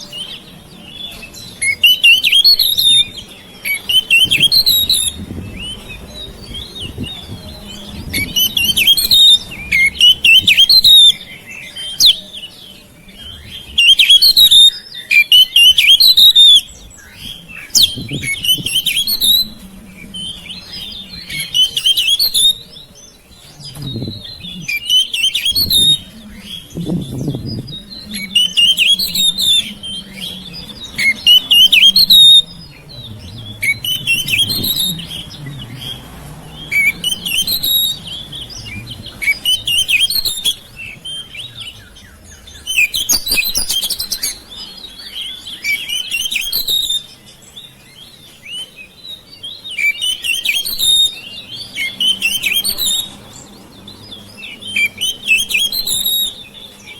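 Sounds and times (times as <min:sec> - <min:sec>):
bird singing chirps and whistles: 0:00.0 - 0:56.9.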